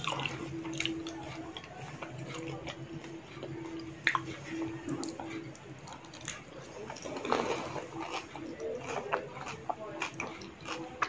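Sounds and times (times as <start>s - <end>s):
faint steady hum: 0.0s - 11.0s
wet chewing: 0.0s - 11.0s.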